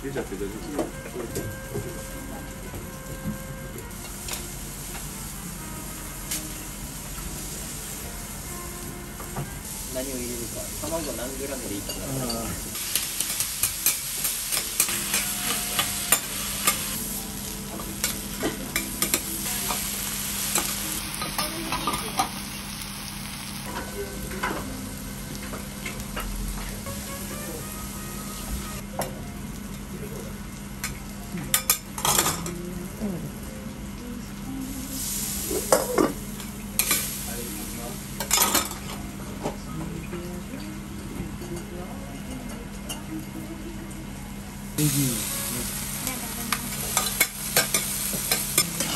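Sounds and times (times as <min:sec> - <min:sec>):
food sizzling on griddle: 0:01.3 - 0:33.2, 0:34.0 - 0:39.4, 0:44.7 - 0:48.9.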